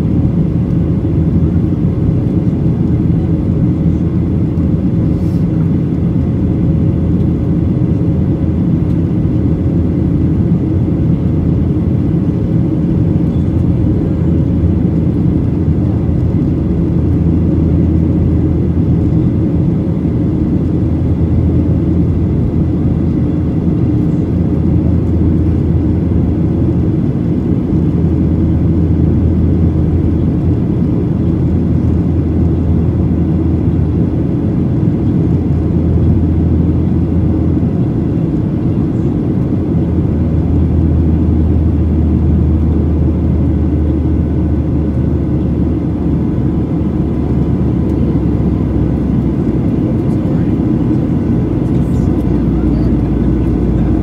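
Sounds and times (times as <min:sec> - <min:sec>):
airplane cabin rumble: 0:00.0 - 0:54.0
faint steady whine: 0:00.0 - 0:54.0.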